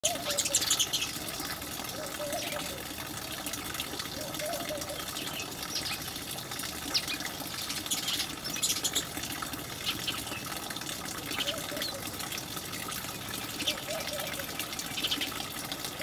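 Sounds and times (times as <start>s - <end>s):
sparrows chirping: 0.0s - 12.2s, 13.0s - 16.0s.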